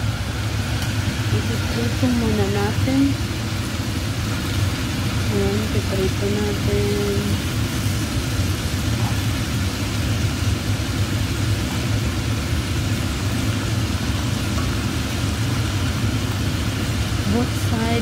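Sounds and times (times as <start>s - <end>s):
livers sizzling in hot oil: 0.0s - 18.0s
steady low hum: 0.0s - 18.0s.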